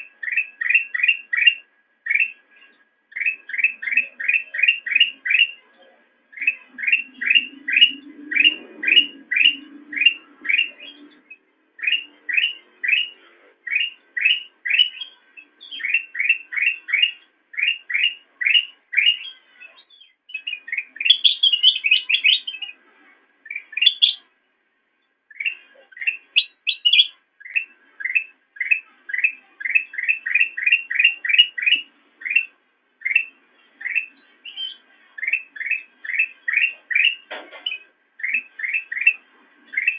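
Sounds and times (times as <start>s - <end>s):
bulbul singing whistled notes: 3.1s - 5.6s, 6.3s - 22.7s, 23.4s - 24.2s, 25.3s - 39.9s.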